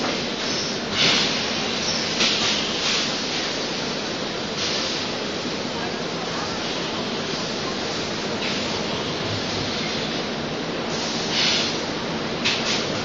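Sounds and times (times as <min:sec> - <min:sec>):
air hiss: 0:00.0 - 0:05.6, 0:06.5 - 0:13.0
machine running steadily: 0:00.0 - 0:13.0.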